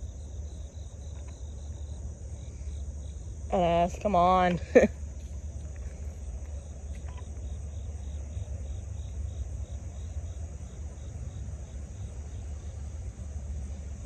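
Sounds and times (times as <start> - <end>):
insects chirping: 0.0 - 14.0
low steady rumble: 0.0 - 14.0.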